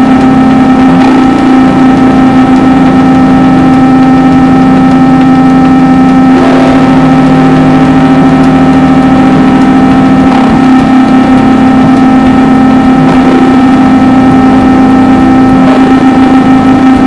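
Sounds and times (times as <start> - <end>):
distorted drone metal: 0.0 - 17.0.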